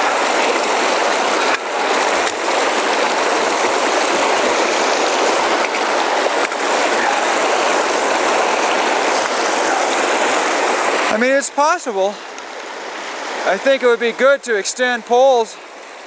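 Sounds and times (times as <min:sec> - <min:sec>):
mountain creek rushing: 0:00.0 - 0:16.0.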